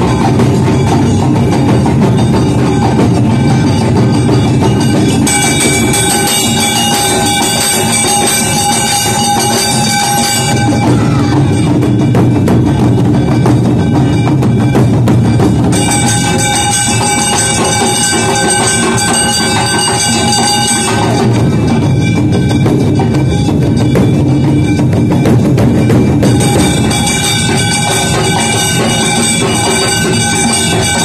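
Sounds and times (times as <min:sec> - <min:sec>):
drums beating fast: 0:00.0 - 0:31.0
high ringing tones: 0:00.0 - 0:31.0.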